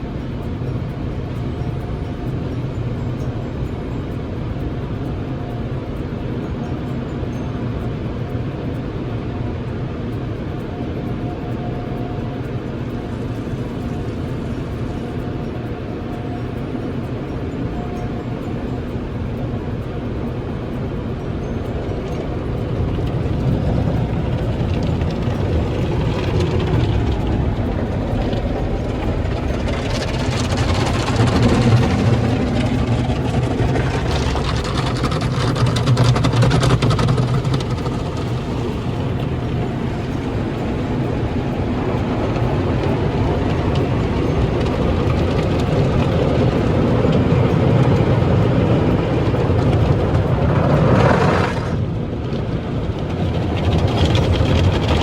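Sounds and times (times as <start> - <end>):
car wash machine rumble: 9.2 - 55.0.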